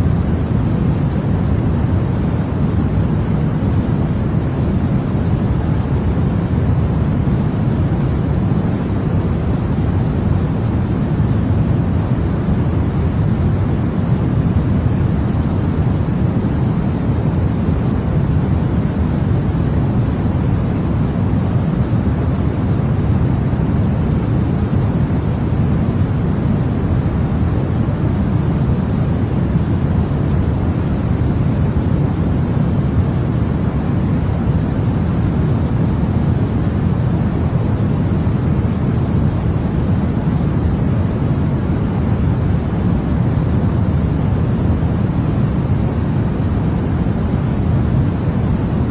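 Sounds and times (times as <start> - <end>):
white noise hiss: 0.0 - 48.9.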